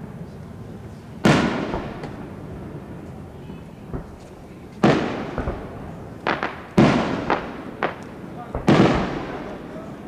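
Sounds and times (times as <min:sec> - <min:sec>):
firework shells bursting: 0:01.3 - 0:03.2, 0:03.8 - 0:10.0.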